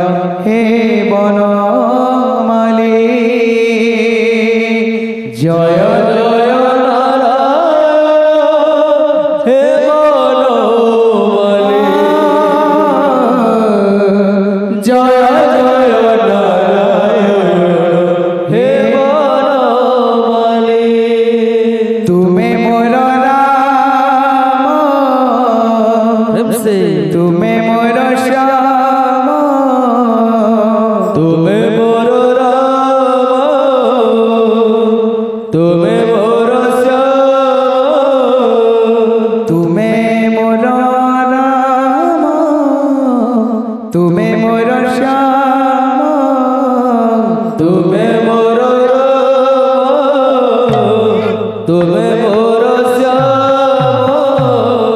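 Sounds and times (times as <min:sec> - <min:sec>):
man singing into a microphone: 0:00.0 - 0:54.9.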